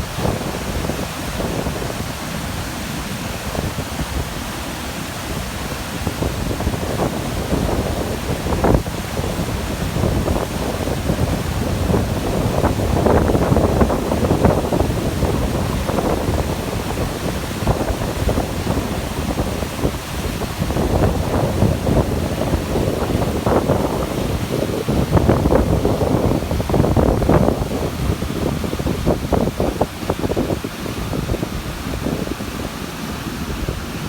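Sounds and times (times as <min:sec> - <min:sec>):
gusty wind on microphone: 0:00.0 - 0:34.0.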